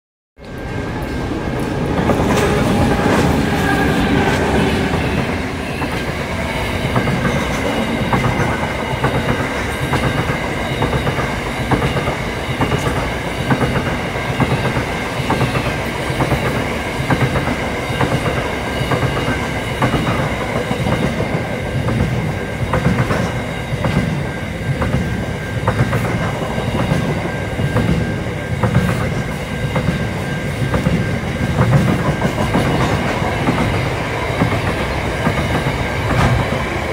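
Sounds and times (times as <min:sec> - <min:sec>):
diesel locomotive engines: 0:00.4 - 0:36.9
train rumble: 0:00.4 - 0:36.9
train wheels clickety-clack: 0:00.4 - 0:36.9.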